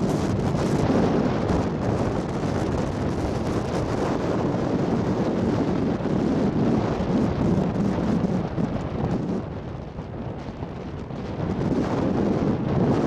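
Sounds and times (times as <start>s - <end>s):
road noise: 0.0s - 12.3s
wind buffeting microphone: 0.0s - 13.0s.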